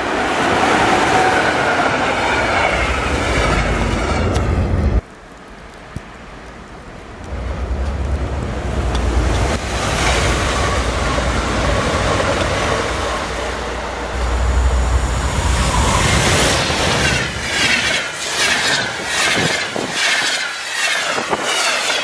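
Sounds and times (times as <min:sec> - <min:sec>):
electric trains passing at speed: 0:00.0 - 0:22.0.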